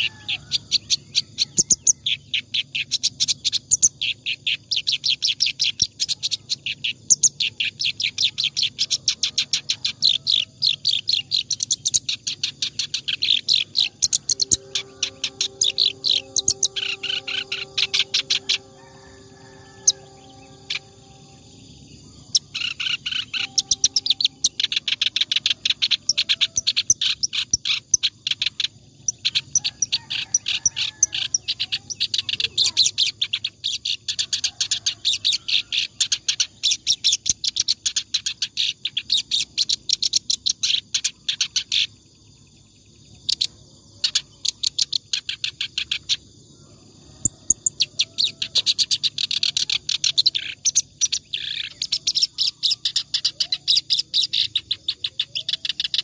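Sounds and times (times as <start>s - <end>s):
reed warbler singing: 0.0s - 42.0s, 43.2s - 46.3s, 47.1s - 56.0s.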